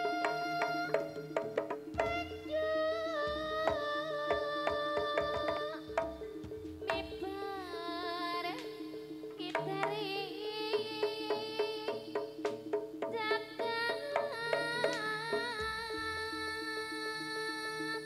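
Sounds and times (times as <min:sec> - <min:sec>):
hand drum strokes: 0:00.0 - 0:16.7
wavering high melody: 0:00.0 - 0:18.0.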